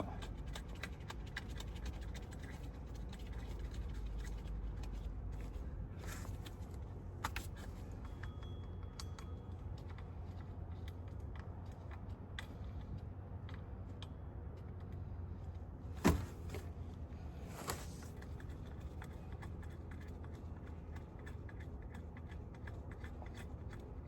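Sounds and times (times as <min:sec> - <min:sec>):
light clicks and scrapes of tools: 0:00.0 - 0:15.7, 0:16.4 - 0:24.0.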